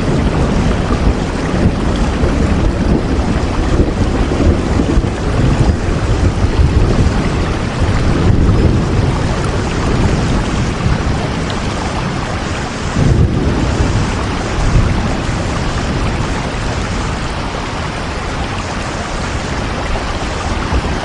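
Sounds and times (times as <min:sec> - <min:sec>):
deep low thunder rumble: 0:00.0 - 0:21.0
heavy rain: 0:00.0 - 0:21.0.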